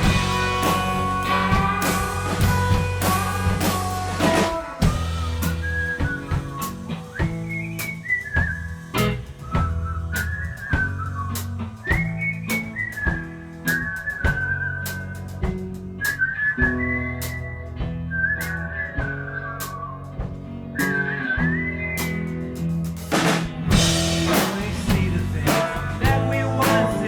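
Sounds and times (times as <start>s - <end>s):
whistled melody: 0.0s - 20.1s, 20.7s - 22.6s
drum kit beat: 0.0s - 27.0s
rock band playing: 0.0s - 27.0s.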